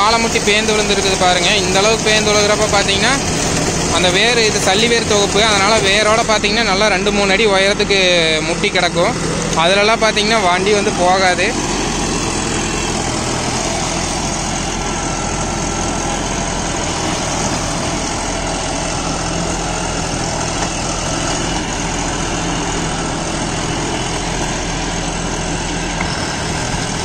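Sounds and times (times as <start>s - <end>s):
tractor engine driving rotary tiller: 0.0s - 27.0s.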